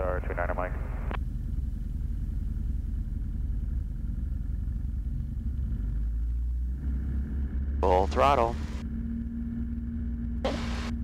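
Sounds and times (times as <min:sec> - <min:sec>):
airplane engine droning: 0:00.0 - 0:11.0.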